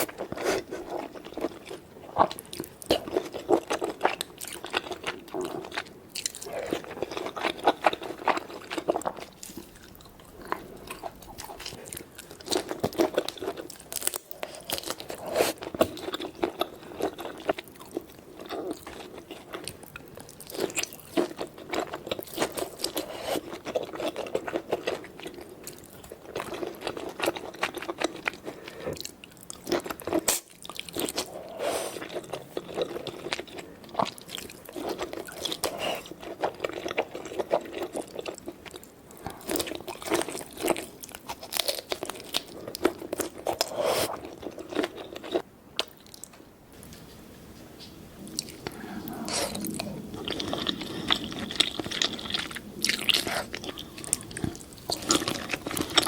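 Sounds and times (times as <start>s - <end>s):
person crunching and chewing food: 0.0s - 46.4s, 48.2s - 56.0s.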